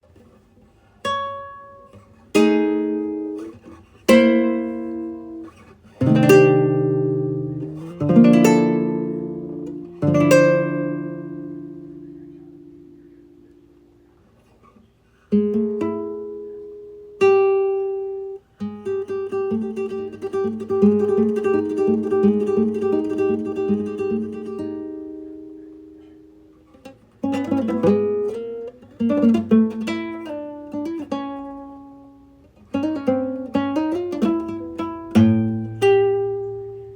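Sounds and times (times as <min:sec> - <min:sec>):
acoustic guitar music: 0:00.0 - 0:36.9.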